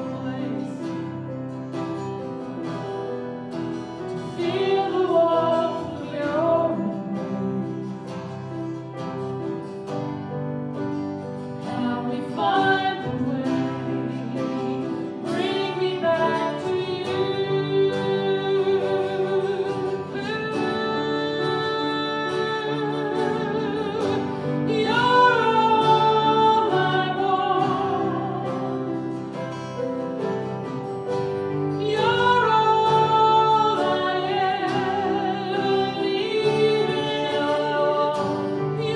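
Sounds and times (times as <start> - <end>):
guitar accompaniment: 0.0 - 38.9.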